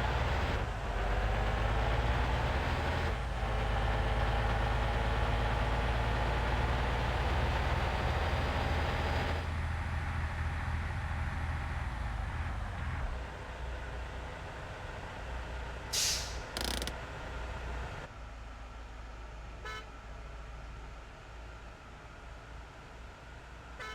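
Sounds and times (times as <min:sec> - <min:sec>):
truck engine rumbling: 0:00.0 - 0:23.9.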